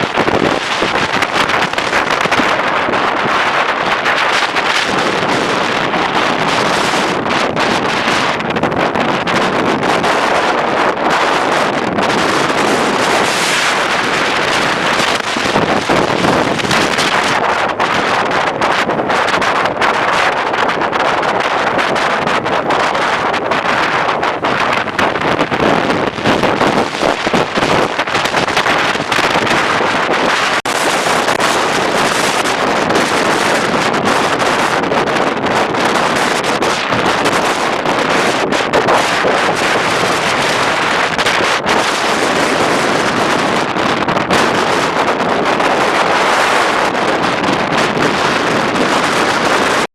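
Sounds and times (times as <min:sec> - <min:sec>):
gusting wind buffeting microphone: 0:00.0 - 0:49.9.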